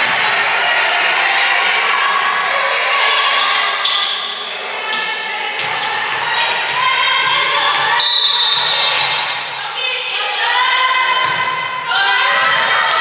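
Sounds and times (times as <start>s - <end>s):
crowd and players' voices: 0.0s - 13.0s.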